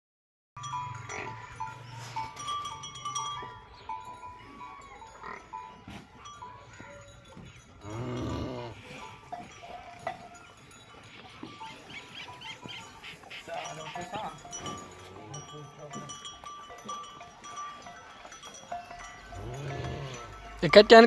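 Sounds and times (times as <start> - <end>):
high chirping tones: 0.6 - 21.0.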